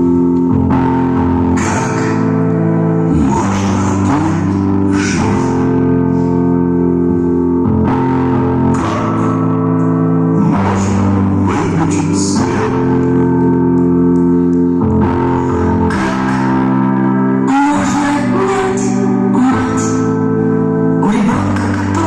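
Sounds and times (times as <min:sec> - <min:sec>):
guitar playing sustained chords: 0:00.0 - 0:22.0.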